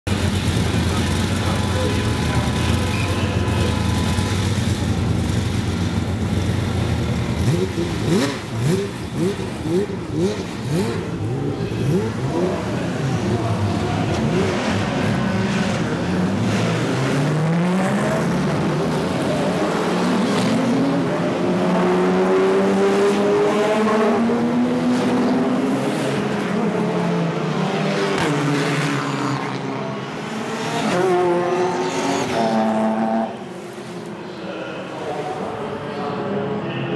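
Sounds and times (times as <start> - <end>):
race cars accelerating past: 1.0 - 36.7.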